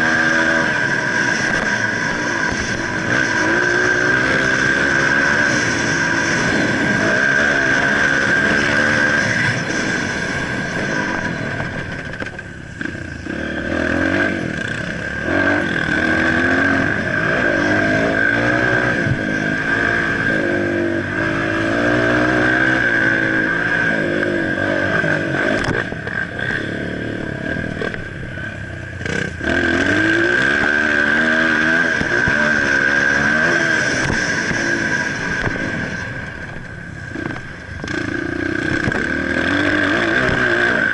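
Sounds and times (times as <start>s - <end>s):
dirt bike engines revving: 0.0s - 40.9s
steady high whine: 0.0s - 40.9s.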